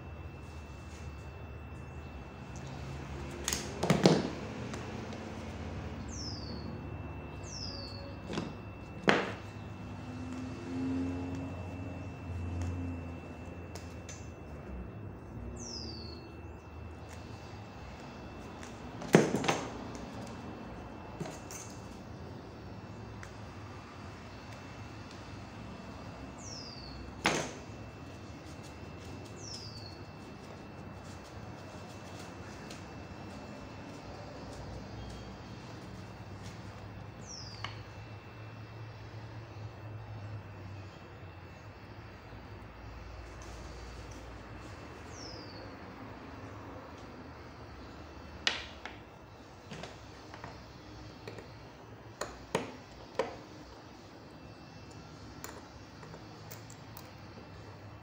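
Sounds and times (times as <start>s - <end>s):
steady background noise: 0.0s - 58.0s.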